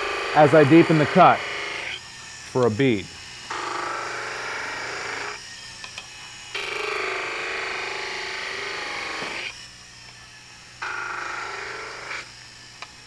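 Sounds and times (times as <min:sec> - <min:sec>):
chisel cutting spinning wood: 0:00.0 - 0:13.0
lathe motor humming: 0:00.0 - 0:13.0.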